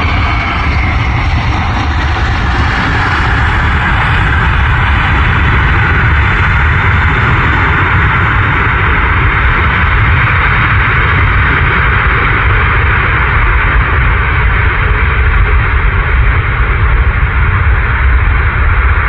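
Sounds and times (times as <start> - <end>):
heavy low rumble: 0.0 - 19.0
jet engines roaring: 0.0 - 19.0.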